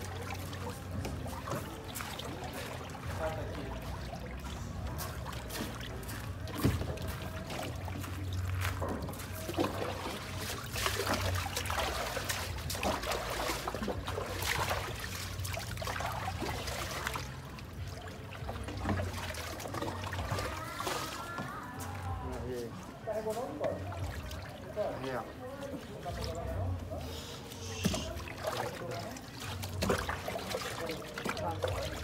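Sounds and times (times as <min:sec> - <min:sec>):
water trickling and splashing: 0:00.0 - 0:32.0.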